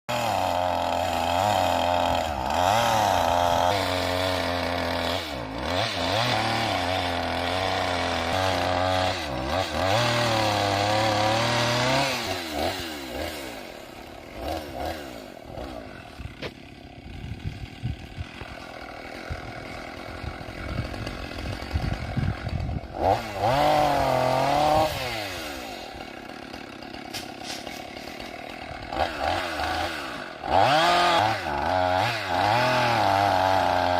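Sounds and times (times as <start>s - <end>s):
chainsaw cutting logs: 0.1s - 33.9s.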